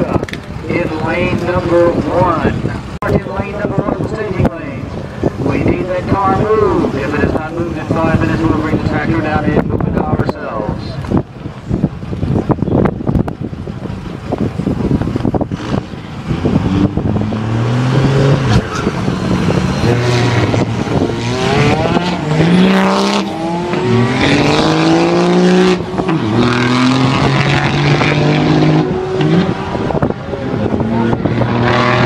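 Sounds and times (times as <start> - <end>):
drag racing engines accelerating: 0.0 - 32.0.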